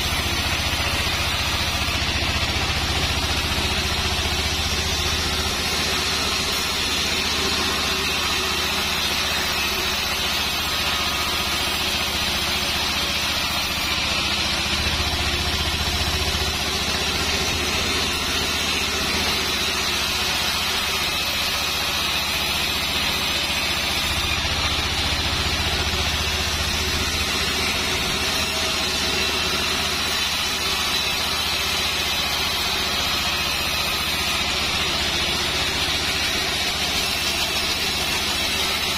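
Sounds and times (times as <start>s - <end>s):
band saw cutting log: 0.0s - 38.9s
machine hum: 0.0s - 38.9s.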